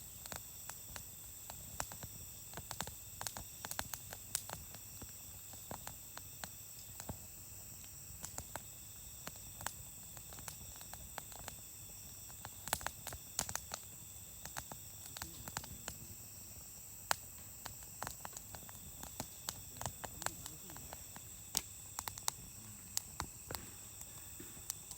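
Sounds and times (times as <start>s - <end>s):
campfire crackling and popping: 0.0s - 24.9s
faint steady hiss: 0.0s - 24.9s.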